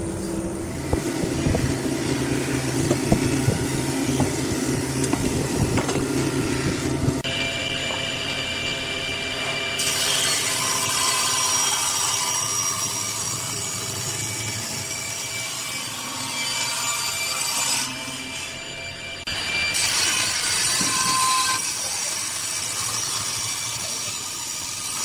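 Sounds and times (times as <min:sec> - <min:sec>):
table saw blade whining: 0:00.0 - 0:25.0
saw cutting wood: 0:00.7 - 0:08.1, 0:09.4 - 0:18.7, 0:19.3 - 0:25.0.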